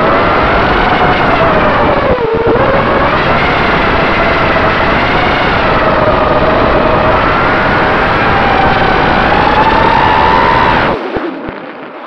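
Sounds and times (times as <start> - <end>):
drone motors whining: 0.0 - 11.0
wind noise: 0.0 - 12.0.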